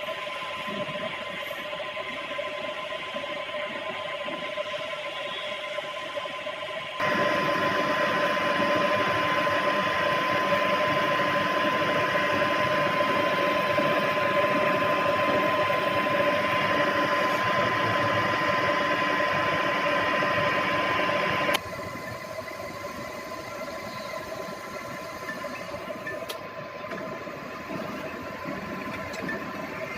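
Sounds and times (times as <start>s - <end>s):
milling machine humming with gear whine: 0.0s - 29.9s.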